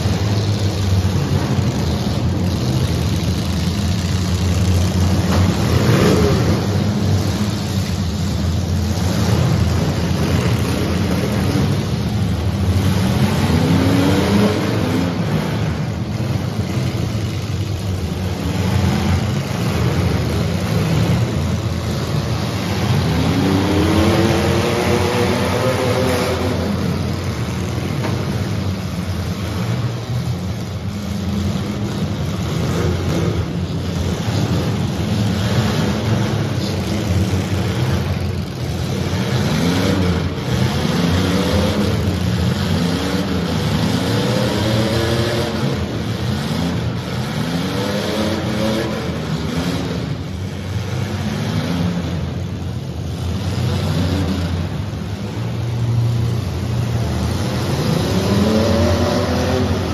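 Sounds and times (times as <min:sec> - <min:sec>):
demolition derby car engines running: 0:00.0 - 0:59.9.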